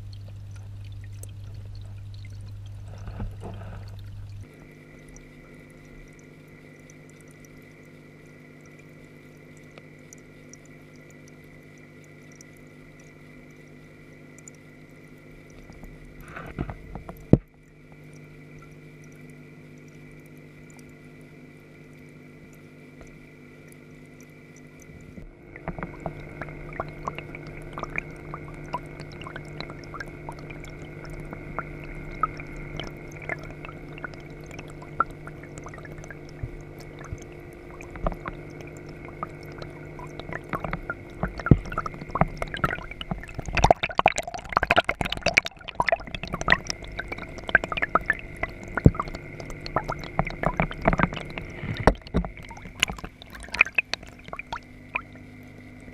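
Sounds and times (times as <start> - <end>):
tank equipment hum: 0.0 - 55.9
water gurgling: 0.0 - 55.9.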